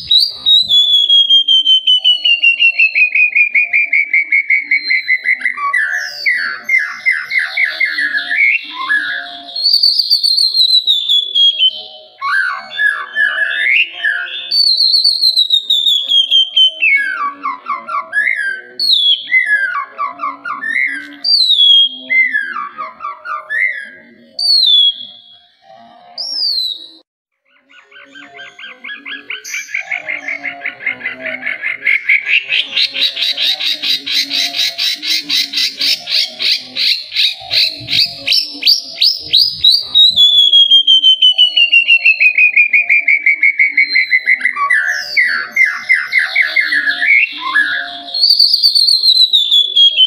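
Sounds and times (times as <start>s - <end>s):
bird whistled song: 0.0s - 50.0s.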